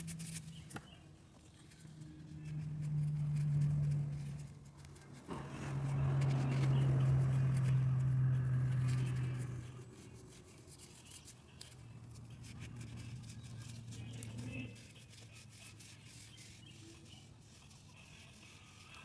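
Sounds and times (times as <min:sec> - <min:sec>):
low steady hum: 0:00.0 - 0:16.0
brush scrubbing metal: 0:01.6 - 0:19.0.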